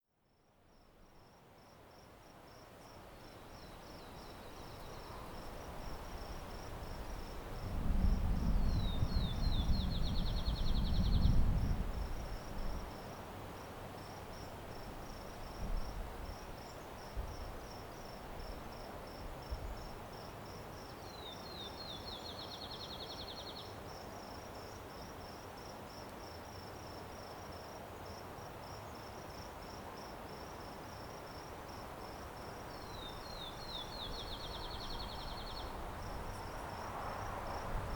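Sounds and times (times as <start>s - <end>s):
cricket chirping: 0.4s - 37.9s.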